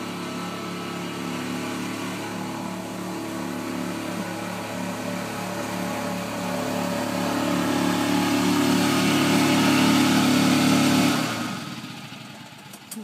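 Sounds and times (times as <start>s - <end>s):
golf cart engine running: 0.0s - 13.0s.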